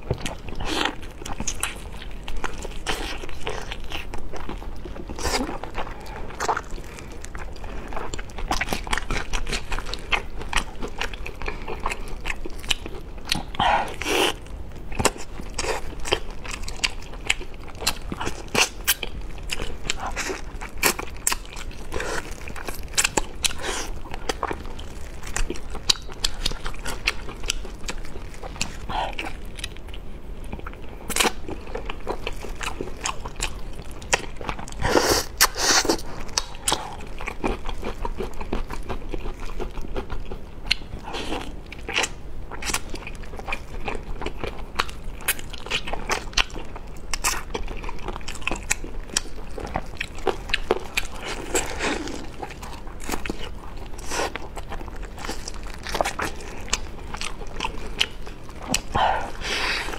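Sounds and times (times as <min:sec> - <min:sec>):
chewing with wet mouth clicks: 0:00.0 - 0:59.9.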